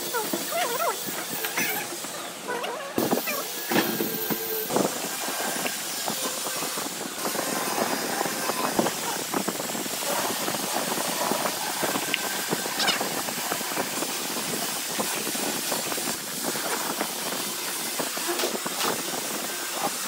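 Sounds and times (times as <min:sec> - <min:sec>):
steady hiss: 0:03.0 - 0:20.0.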